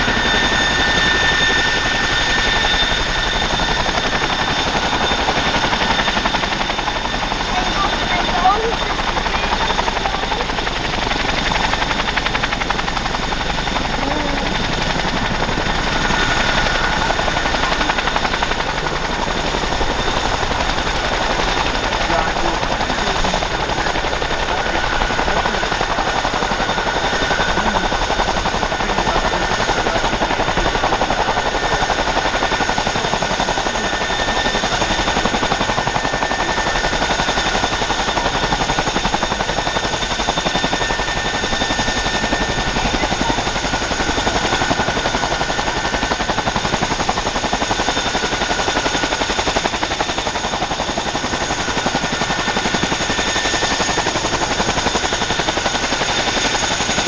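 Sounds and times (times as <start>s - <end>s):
helicopter rotor blade chop: 0.0s - 57.0s
turboshaft engine whine: 0.0s - 57.0s.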